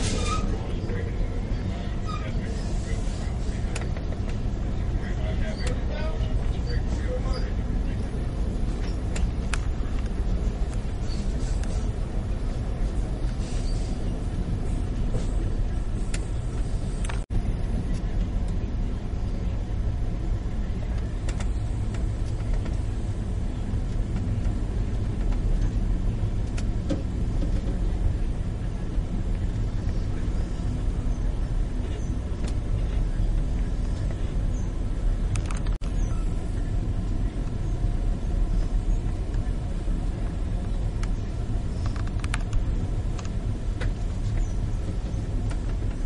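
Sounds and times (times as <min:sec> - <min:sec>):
train car rumbling on track: 0:00.0 - 0:46.0.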